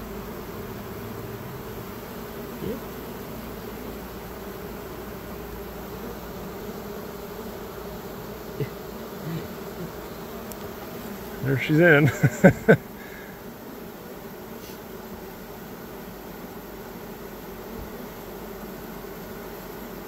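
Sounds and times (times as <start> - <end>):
honey bee swarm humming: 0.0 - 20.0
single bee buzzing close by: 0.0 - 20.0.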